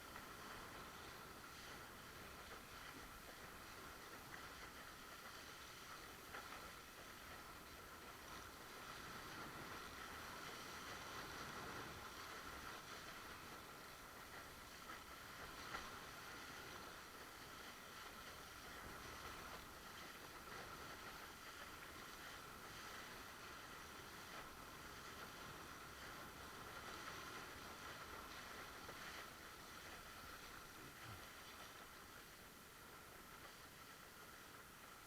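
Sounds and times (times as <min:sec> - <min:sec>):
faint steady hum: 0:00.0 - 0:35.0
muffled rush of wind and water: 0:00.0 - 0:35.0.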